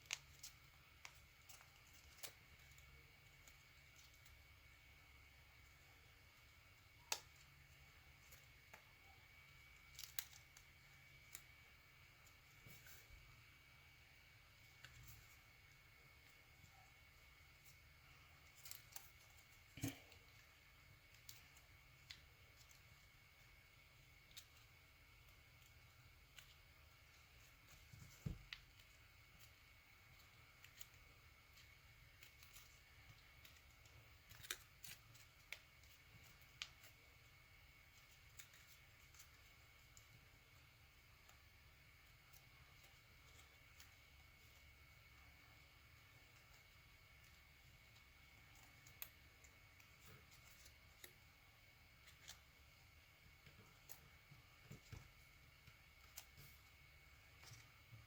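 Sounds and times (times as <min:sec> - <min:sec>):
faint high-pitched whine: 0:00.0 - 0:58.0.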